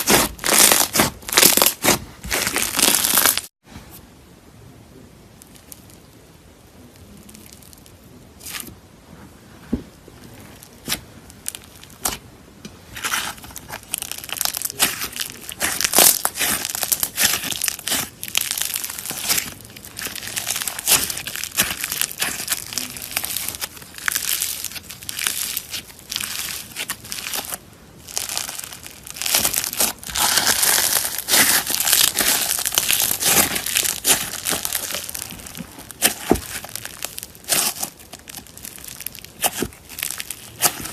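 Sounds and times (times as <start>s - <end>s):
slime crackling and popping: 0.0s - 3.5s, 5.4s - 6.2s, 6.9s - 8.8s, 10.5s - 12.2s, 12.8s - 40.9s.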